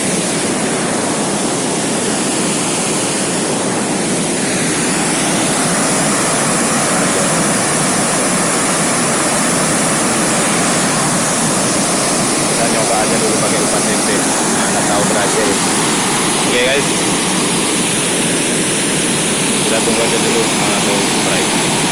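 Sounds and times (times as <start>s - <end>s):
water rushing over weir: 0.0s - 21.9s.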